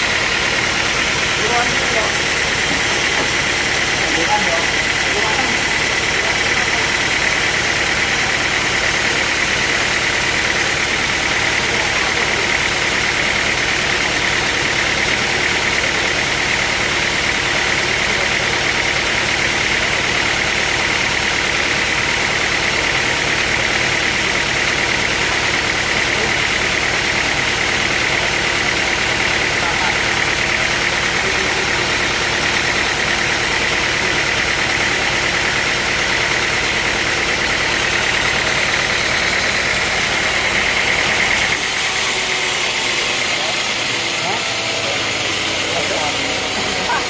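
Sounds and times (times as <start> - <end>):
high machine whine: 0.0 - 15.9, 23.5 - 47.0
sawmill machinery drone: 0.0 - 47.0.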